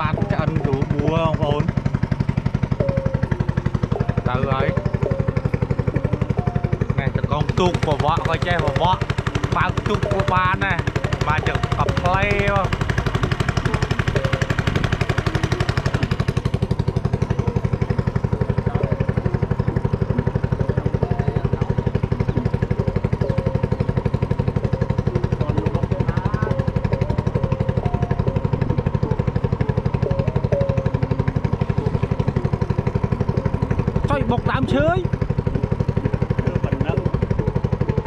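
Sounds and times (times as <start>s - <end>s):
small engine running: 0.0s - 38.0s.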